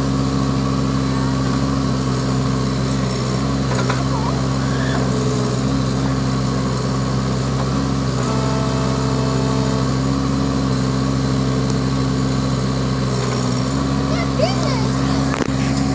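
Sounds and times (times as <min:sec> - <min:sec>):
mini excavator diesel engine running: 0:00.0 - 0:15.9.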